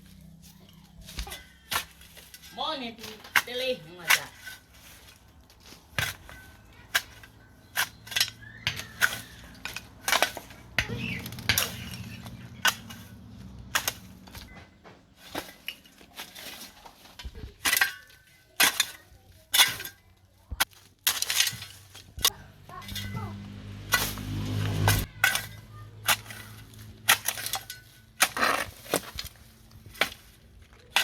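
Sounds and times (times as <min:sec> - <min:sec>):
construction knocks and metallic clinks: 0:05.4 - 0:31.0.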